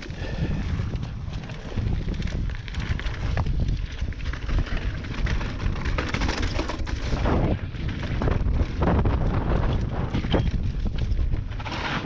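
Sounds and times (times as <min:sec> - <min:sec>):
bike clicks and rattles: 0:00.0 - 0:12.0
tyres on dirt: 0:00.0 - 0:12.0
wind on microphone: 0:00.0 - 0:12.0.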